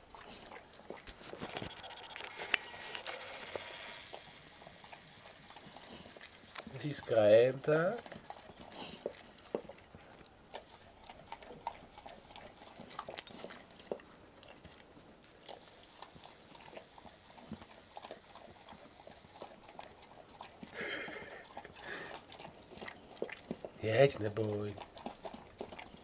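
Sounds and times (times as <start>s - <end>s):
dog licking and eating: 0.0s - 26.0s.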